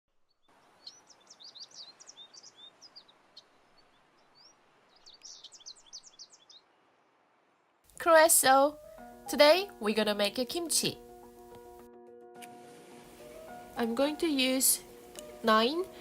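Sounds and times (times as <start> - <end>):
songbird chirps and trills: 0.2 - 16.0
soft background hiss: 0.5 - 16.0.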